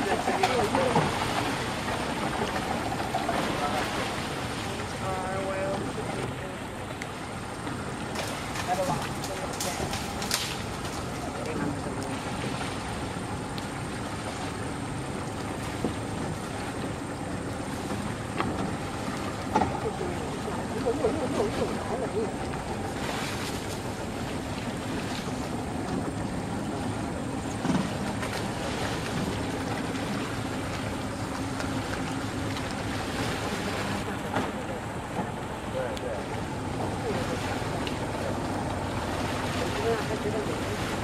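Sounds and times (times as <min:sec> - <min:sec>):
boat engine hum: 0:00.0 - 0:41.0.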